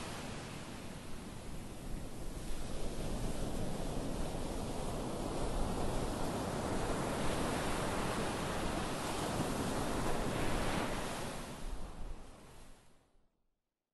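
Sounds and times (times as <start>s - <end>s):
wind rumble on microphone: 0.0s - 12.8s.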